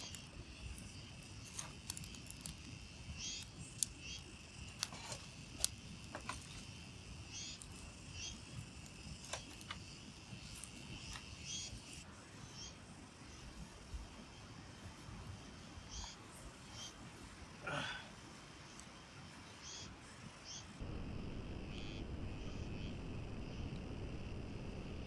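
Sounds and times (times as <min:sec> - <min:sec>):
insect trilling: 0:00.0 - 0:13.8, 0:14.4 - 0:20.8, 0:21.6 - 0:24.4.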